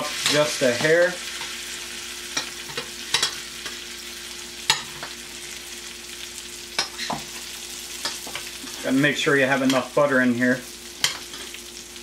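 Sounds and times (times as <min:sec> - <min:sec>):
fish sizzling in butter: 0:00.0 - 0:12.0.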